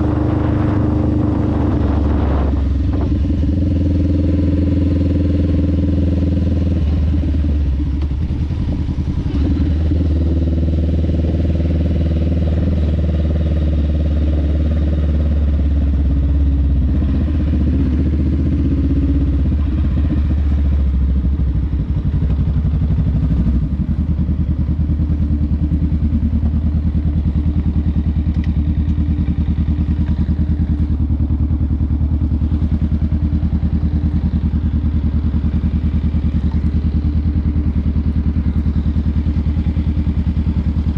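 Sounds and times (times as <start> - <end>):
motorcycle engine rumbling: 0.0 - 40.9.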